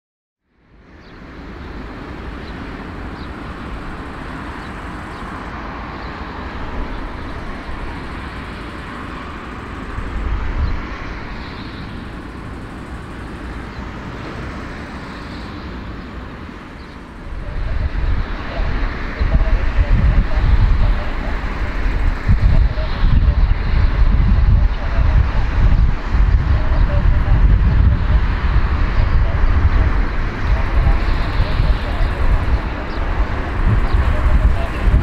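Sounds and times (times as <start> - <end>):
jet engines running: 0.6 - 35.0.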